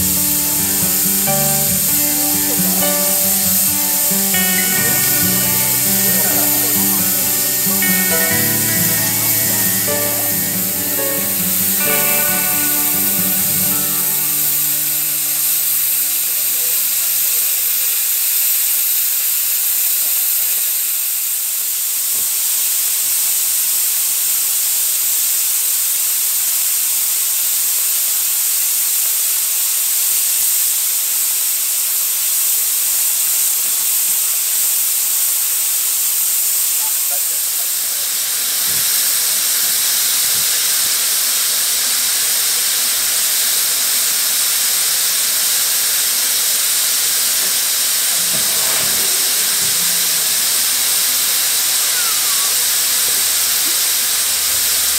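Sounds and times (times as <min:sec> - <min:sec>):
steam locomotive hissing steam: 0:00.0 - 0:25.7, 0:33.3 - 0:54.9.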